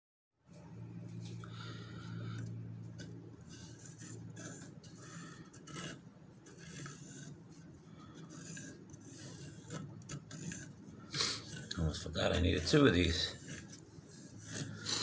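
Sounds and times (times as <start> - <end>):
low steady hum: 0.5 - 15.0
pencil scratching on wood: 2.9 - 15.0.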